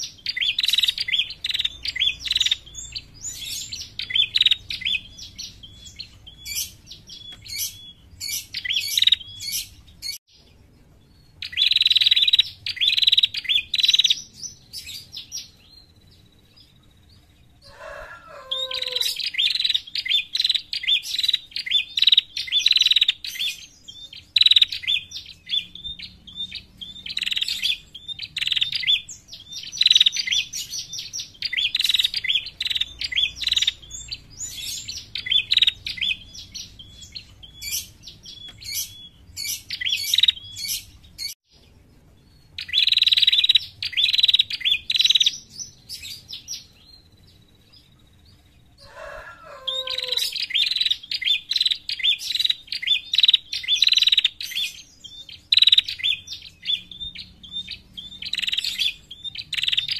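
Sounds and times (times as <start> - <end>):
bird chipping rapidly: 0.0 - 10.4, 11.3 - 15.6, 17.9 - 41.4, 42.5 - 46.7, 49.2 - 59.9.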